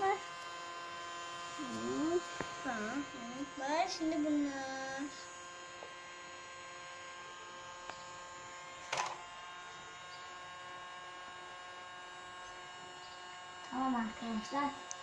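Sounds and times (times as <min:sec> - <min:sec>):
toy motor buzzing hum: 0:00.0 - 0:15.0.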